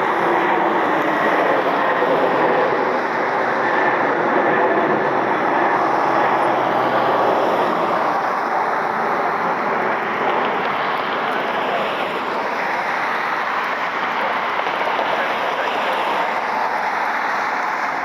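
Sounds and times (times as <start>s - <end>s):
jet engines at takeoff power: 0.0s - 18.0s.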